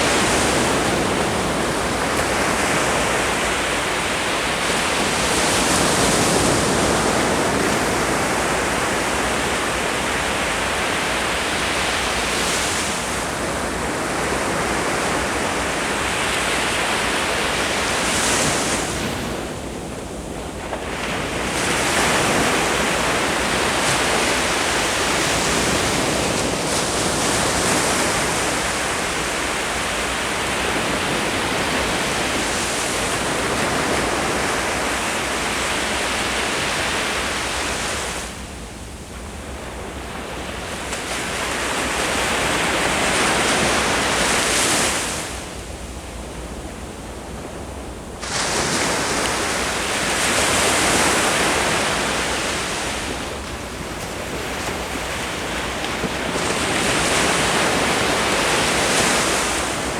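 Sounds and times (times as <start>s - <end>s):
ocean surf breaking: 0.0s - 38.4s, 39.5s - 59.9s.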